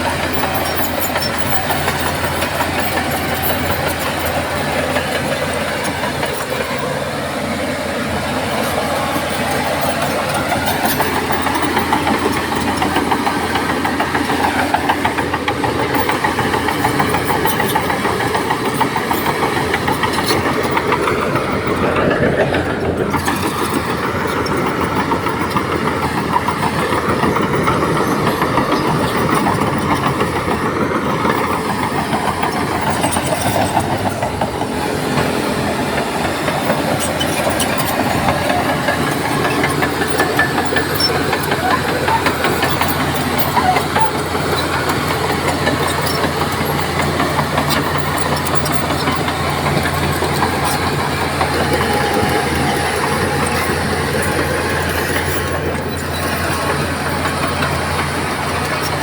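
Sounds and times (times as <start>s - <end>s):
diesel earthmoving machinery running: 0.0s - 59.0s.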